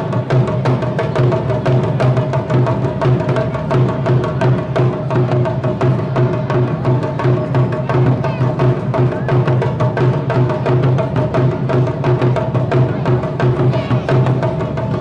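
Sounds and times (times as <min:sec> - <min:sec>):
music with clicking percussion beat: 0:00.0 - 0:15.0.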